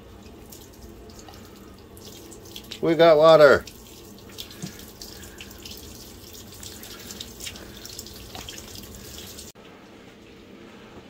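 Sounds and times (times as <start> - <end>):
water splashing on wood: 0.0 - 9.6
water spurting from hose: 0.0 - 9.6.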